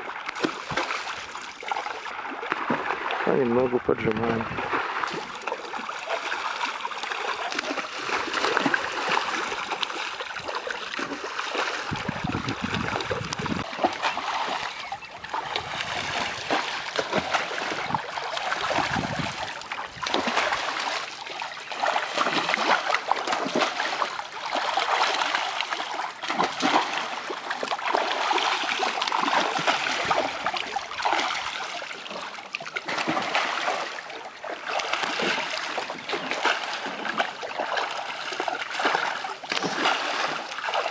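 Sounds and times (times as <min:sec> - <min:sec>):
fish thrashing and splashing: 0:00.0 - 0:03.3, 0:04.2 - 0:40.9
water running off nets: 0:00.0 - 0:40.9.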